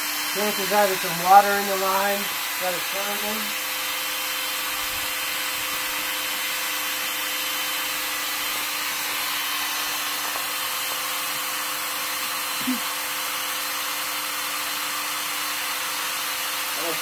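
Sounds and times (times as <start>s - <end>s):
electric drill running: 0.0s - 17.0s.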